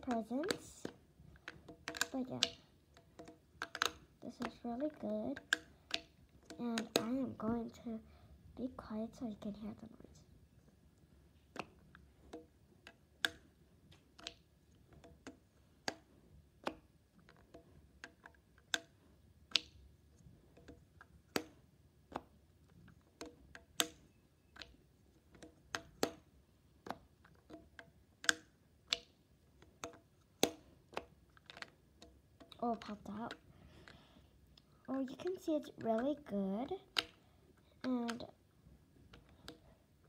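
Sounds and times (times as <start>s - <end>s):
plastic bricks clicking: 0.0s - 7.3s, 11.4s - 38.4s, 39.0s - 39.7s.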